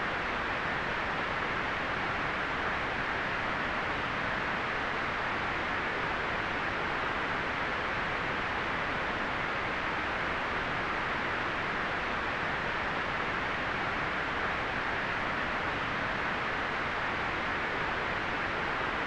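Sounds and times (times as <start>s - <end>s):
white noise hiss: 0.0s - 19.0s.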